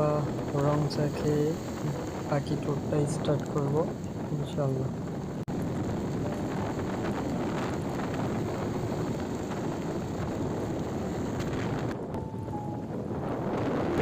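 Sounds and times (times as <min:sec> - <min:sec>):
vehicle and road noise: 0:00.0 - 0:14.0
wind buffeting microphone: 0:00.0 - 0:14.0.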